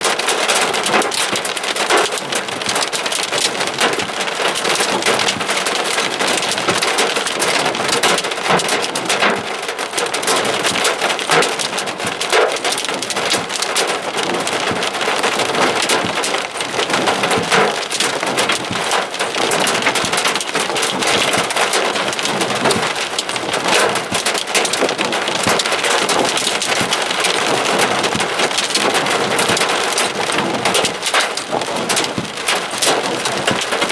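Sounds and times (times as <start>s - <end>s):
hail clattering on car roof: 0.0s - 33.9s
heavy rain roaring: 0.0s - 33.9s.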